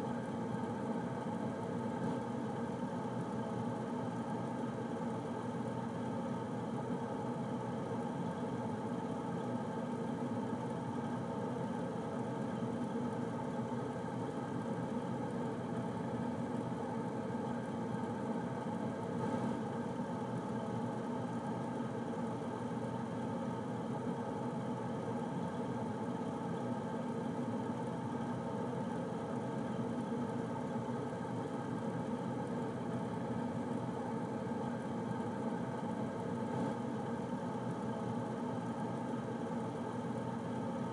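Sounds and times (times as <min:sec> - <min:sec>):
air conditioner humming: 0:00.0 - 0:40.9.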